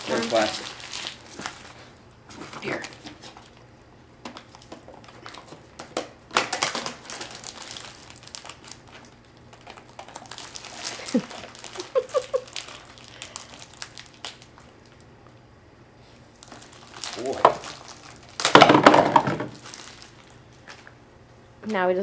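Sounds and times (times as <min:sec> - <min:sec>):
plastic wrapping crinkling and tearing: 0:00.0 - 0:03.7, 0:04.3 - 0:15.1, 0:16.2 - 0:21.0.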